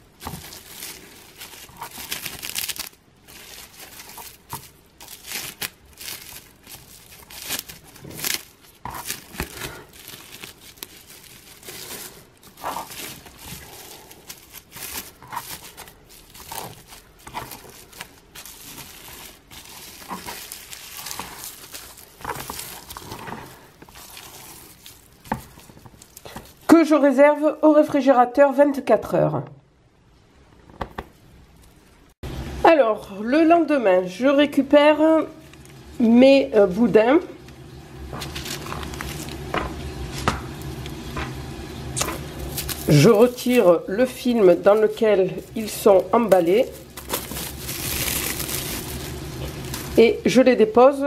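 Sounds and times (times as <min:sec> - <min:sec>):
cling film crinkling: 0:00.0 - 0:27.6, 0:35.1 - 0:36.0, 0:37.4 - 0:51.0.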